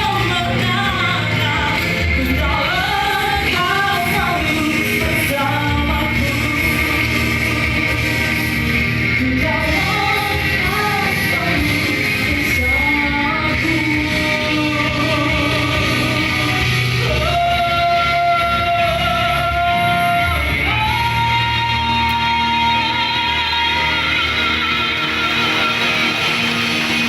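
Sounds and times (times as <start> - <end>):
people singing: 0.0 - 27.0
rock band playing: 0.0 - 27.0.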